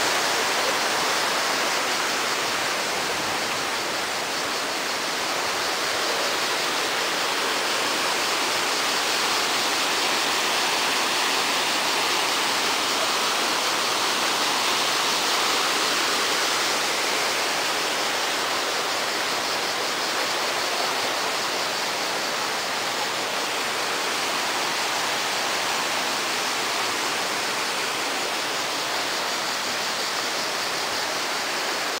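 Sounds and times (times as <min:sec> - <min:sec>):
fast-flowing water rushing: 0:00.0 - 0:32.0.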